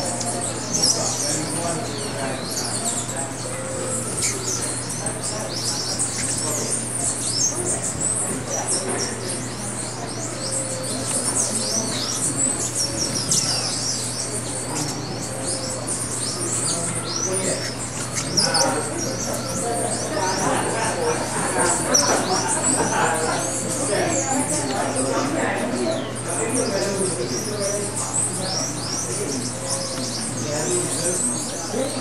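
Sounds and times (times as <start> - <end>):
birds chirping and twittering: 0.0 - 32.0
steady low hum: 0.0 - 32.0.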